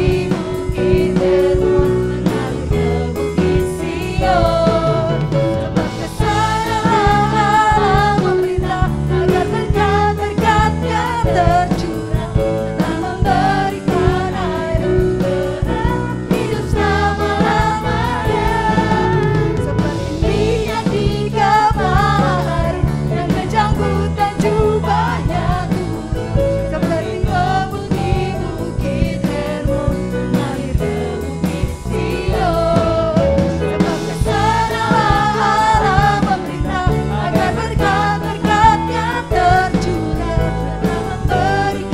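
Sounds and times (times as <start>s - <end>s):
band playing worship song: 0.0s - 41.9s
person singing: 0.0s - 41.9s.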